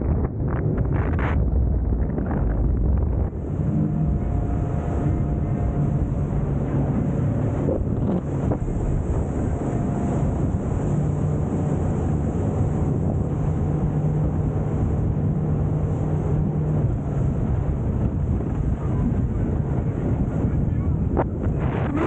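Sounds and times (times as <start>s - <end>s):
boat engine hum: 0.0s - 22.0s
wind noise on microphone: 0.0s - 22.0s.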